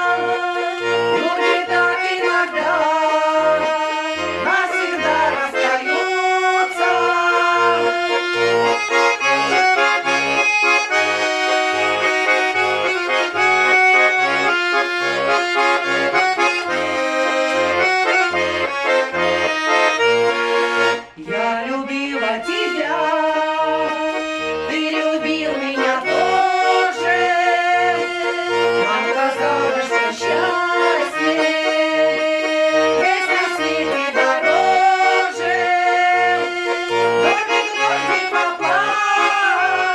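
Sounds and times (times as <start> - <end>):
accordion playing folk tune: 0.0 - 39.9.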